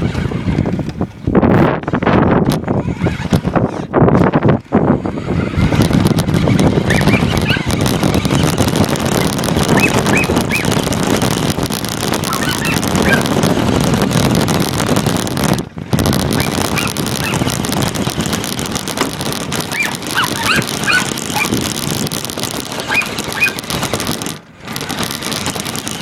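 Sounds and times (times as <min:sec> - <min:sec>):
rumbling and buffeting noise: 0:00.0 - 0:26.0
wind on microphone: 0:00.0 - 0:26.0.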